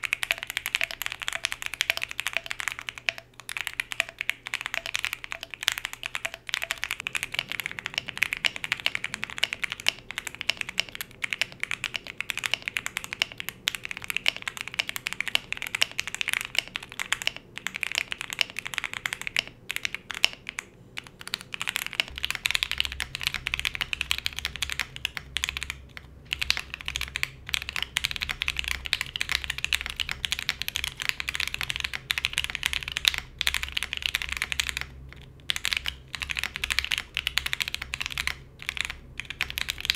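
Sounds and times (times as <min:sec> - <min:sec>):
low steady hum: 0:00.0 - 0:39.9
mechanical keyboard typing: 0:00.0 - 0:39.9.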